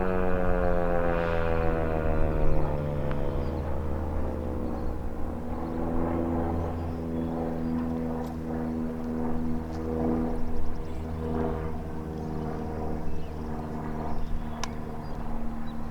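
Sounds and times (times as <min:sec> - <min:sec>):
low mechanical drone: 0:00.0 - 0:15.9.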